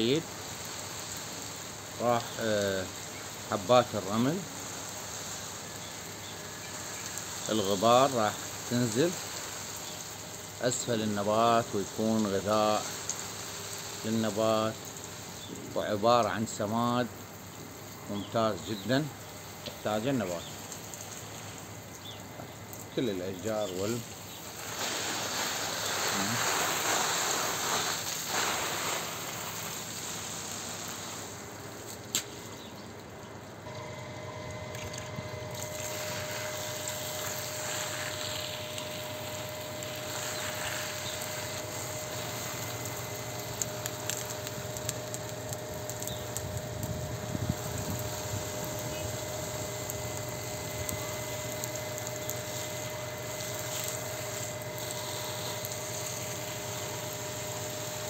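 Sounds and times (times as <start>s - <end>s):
motor hum with high whine: 0.0s - 58.0s
water spraying on foliage: 0.0s - 58.0s.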